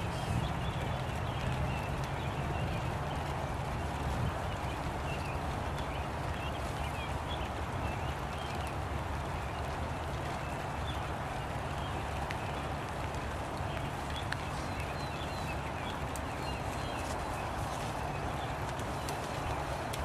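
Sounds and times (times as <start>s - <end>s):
rain pattering on umbrellas: 0.0s - 20.0s
small birds chirping: 0.0s - 20.0s.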